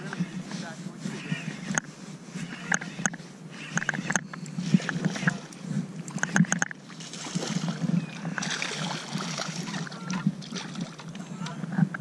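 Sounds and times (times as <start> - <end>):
small waves lapping against hull: 0.0 - 12.0.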